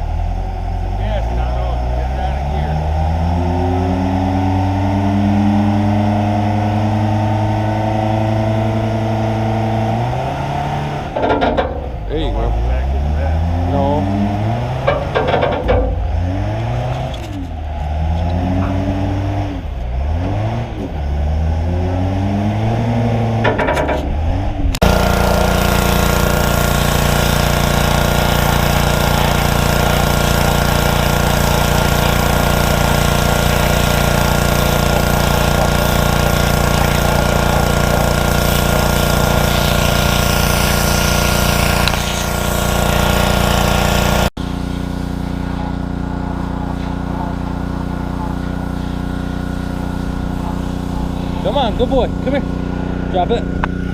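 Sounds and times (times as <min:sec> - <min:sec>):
engine running at high speed: 0:00.0 - 0:53.9
wheel loader engine revving: 0:00.0 - 0:53.9.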